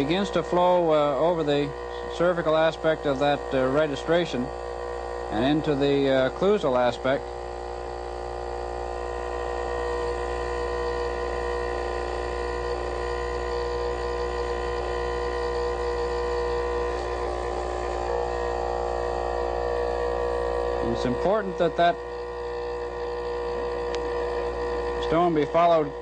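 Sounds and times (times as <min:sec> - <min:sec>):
dental vibrator humming: 0:00.0 - 0:26.0.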